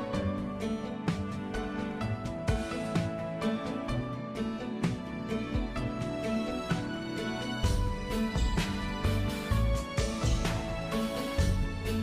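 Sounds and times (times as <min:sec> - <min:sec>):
instrumental music with a beat: 0:00.0 - 0:12.0.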